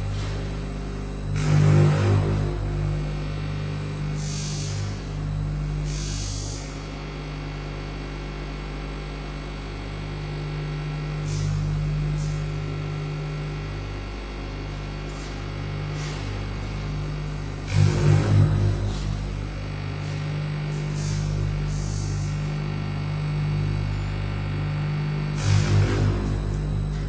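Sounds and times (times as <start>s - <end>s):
low electronic hum: 0.0s - 27.0s.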